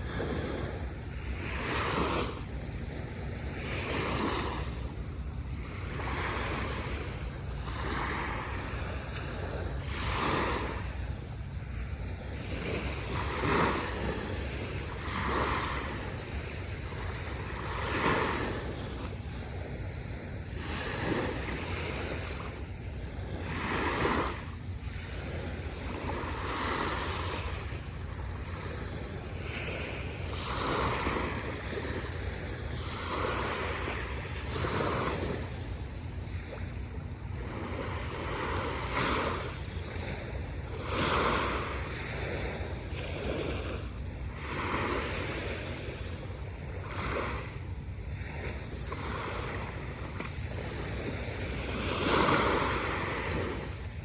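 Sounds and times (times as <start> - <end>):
small waves washing on sand: 0.0 - 54.0
wind rumble on microphone: 0.0 - 54.0.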